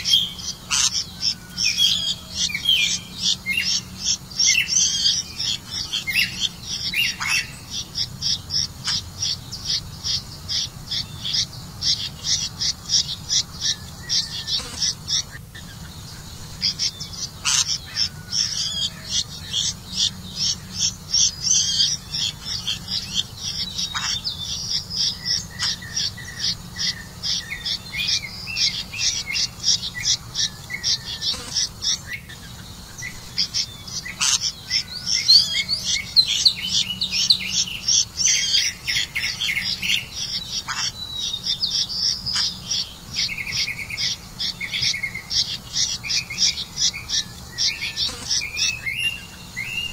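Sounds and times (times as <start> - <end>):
nestling birds chirping: 0.0 - 49.9.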